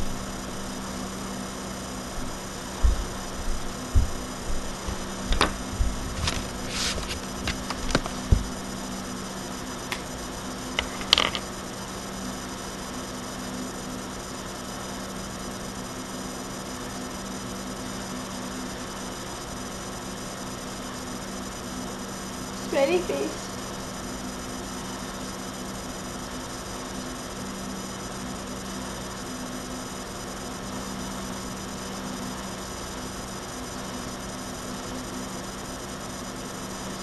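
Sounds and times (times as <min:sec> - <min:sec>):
electrical hum and hiss: 0:00.0 - 0:37.0.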